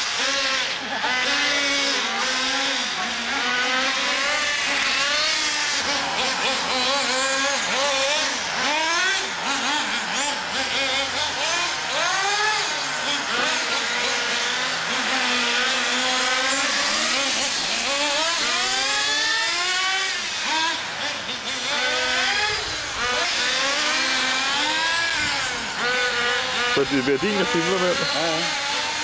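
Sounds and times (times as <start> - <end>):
rc truck engines whining: 0.0 - 29.0.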